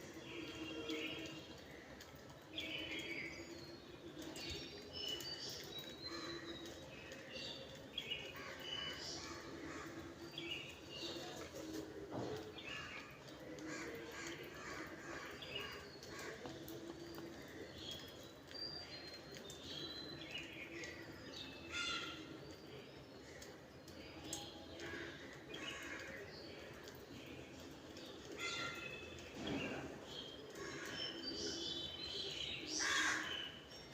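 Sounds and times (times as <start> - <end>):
birds chirping and calling: 4.3 - 33.9.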